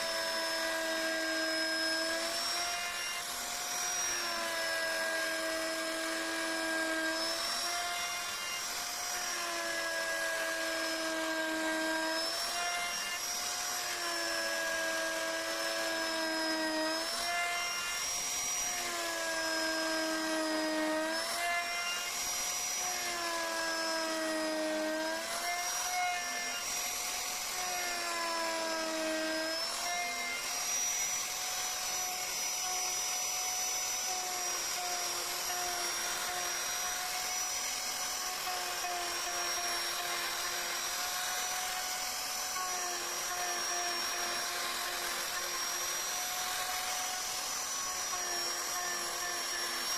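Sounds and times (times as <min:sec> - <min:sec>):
rotary carving tool whining: 0:00.0 - 0:49.9.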